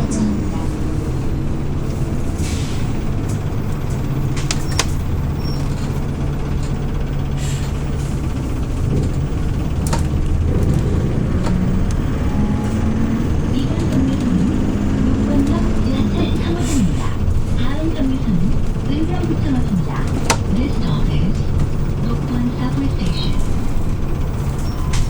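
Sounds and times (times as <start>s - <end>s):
bus engine droning: 0.0s - 25.0s
clicks and rattles in cabin: 0.0s - 25.0s.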